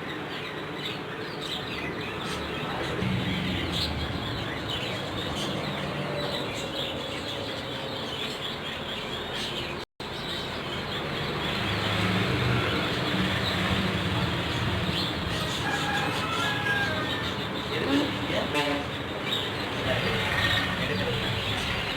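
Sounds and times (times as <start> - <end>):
caged birds chirping: 0.0 - 21.9.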